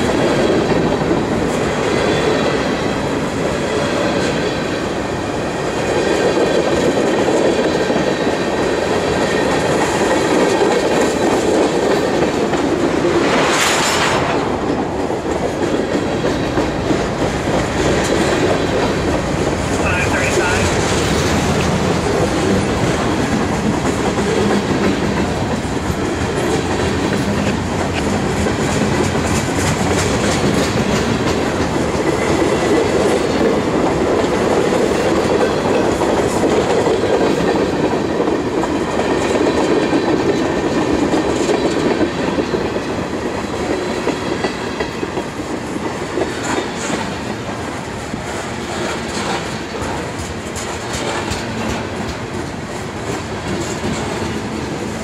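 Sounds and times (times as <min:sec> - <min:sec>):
freight train rumbling past: 0:00.0 - 0:55.0
wheels clicking over rail joints: 0:05.6 - 0:55.0.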